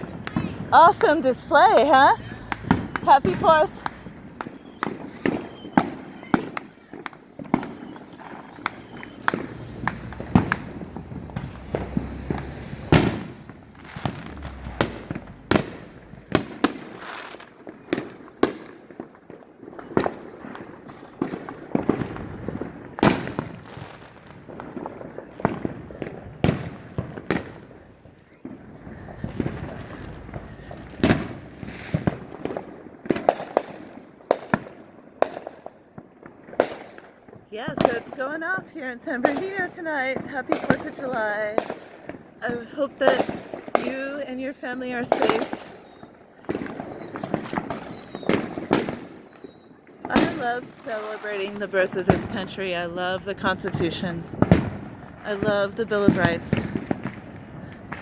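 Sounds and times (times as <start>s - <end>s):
distant explosions rumbling: 0.0s - 58.0s
firecrackers banging and popping: 0.0s - 58.0s.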